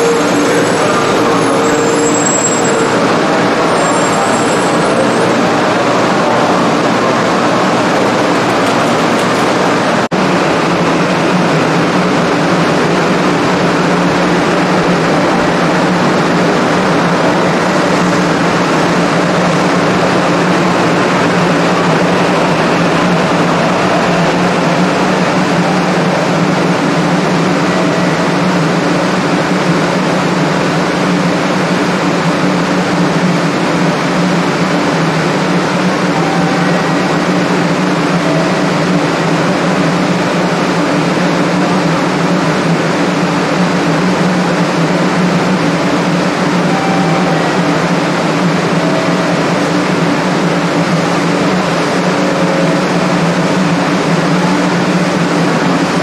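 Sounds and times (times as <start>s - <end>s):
bullet train rumbling: 0.0s - 56.0s.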